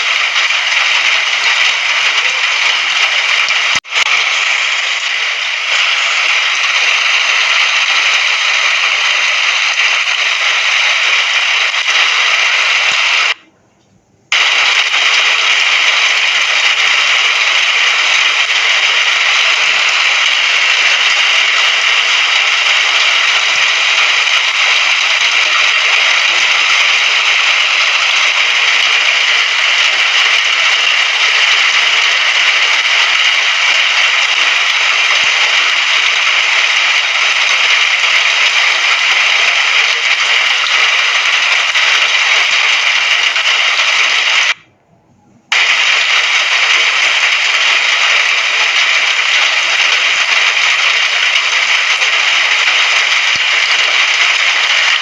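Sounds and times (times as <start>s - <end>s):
steady rain hiss: 0.0s - 13.4s, 14.3s - 44.6s, 45.5s - 55.0s.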